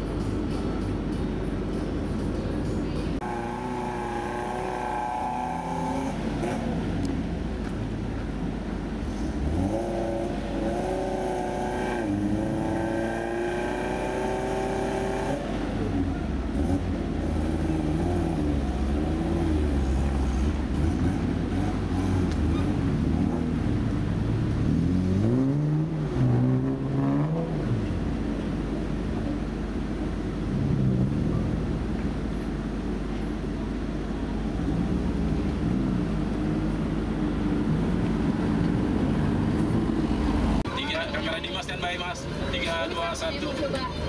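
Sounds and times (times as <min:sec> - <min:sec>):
suv engines revving: 0:00.0 - 0:44.0.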